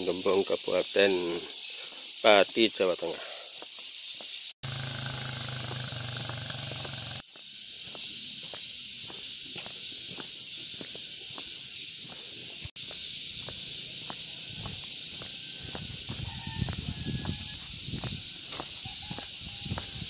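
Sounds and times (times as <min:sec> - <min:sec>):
cicada chorus drone: 0:00.0 - 0:20.0.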